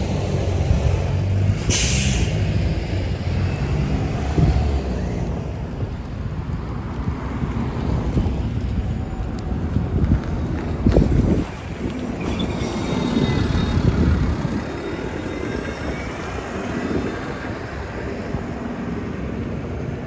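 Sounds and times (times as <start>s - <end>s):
bus rumbling past: 0.0s - 20.0s
wind buffeting microphone: 2.4s - 20.0s.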